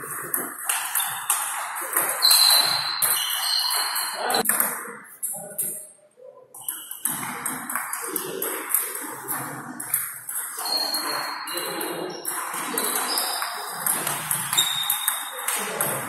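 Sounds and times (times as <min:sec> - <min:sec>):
table tennis balls clicking: 0:00.0 - 0:05.8, 0:06.6 - 0:16.0.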